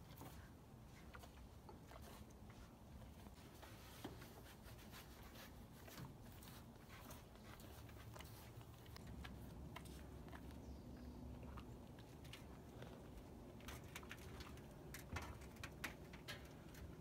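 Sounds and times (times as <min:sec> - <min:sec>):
animal licking metal: 0:00.0 - 0:17.0.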